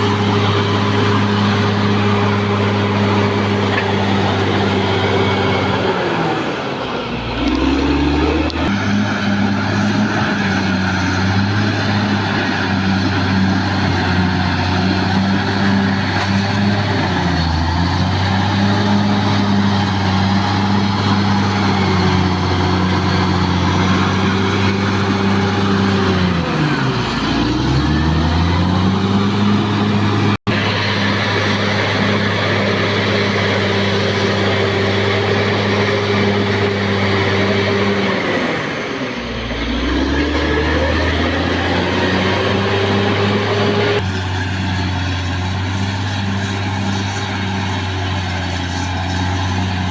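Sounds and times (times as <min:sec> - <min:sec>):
bulldozer diesel engine running hard: 0:00.0 - 0:49.9.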